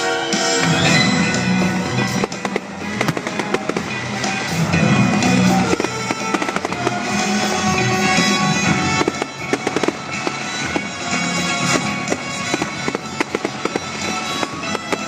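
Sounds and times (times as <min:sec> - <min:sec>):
loud music: 0:00.0 - 0:15.0
fireworks bursting and crackling: 0:00.4 - 0:15.0.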